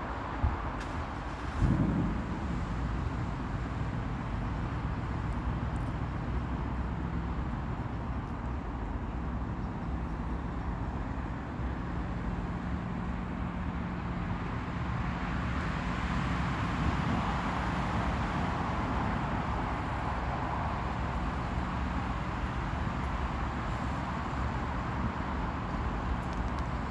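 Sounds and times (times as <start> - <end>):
road traffic: 0.0 - 26.9.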